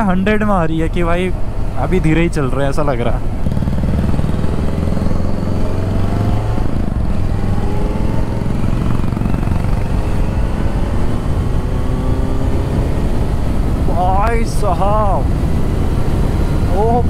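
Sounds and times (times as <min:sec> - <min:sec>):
wind rumble on microphone: 0:03.2 - 0:17.0.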